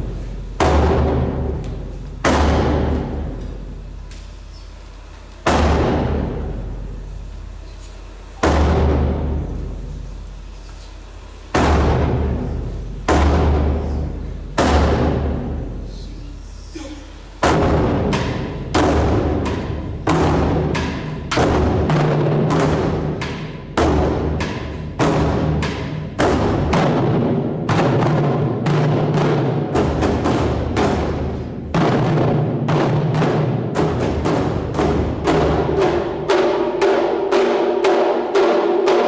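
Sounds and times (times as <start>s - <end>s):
taiko drum strikes: 0.0s - 4.1s, 5.4s - 7.1s, 8.2s - 10.1s, 11.3s - 16.0s, 17.3s - 39.0s.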